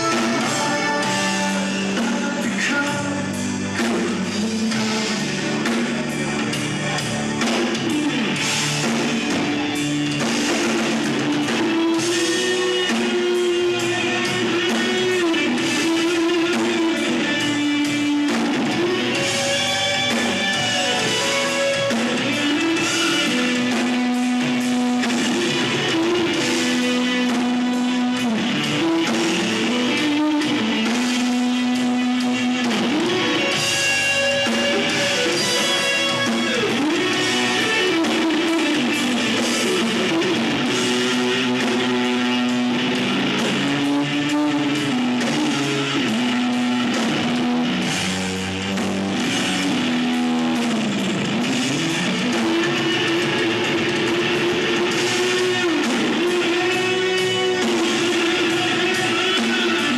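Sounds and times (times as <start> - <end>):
electric guitar bending notes: 0.0 - 59.9
live rock band: 0.0 - 59.9.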